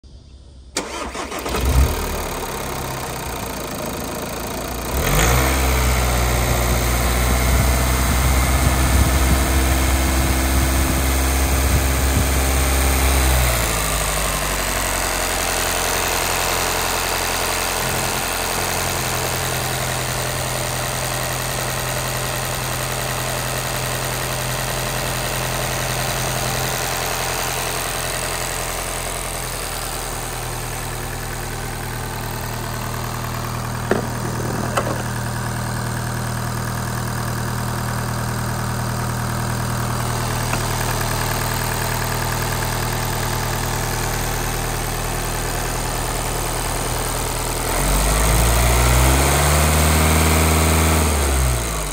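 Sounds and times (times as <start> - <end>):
diesel engine idling: 0.6 - 51.9.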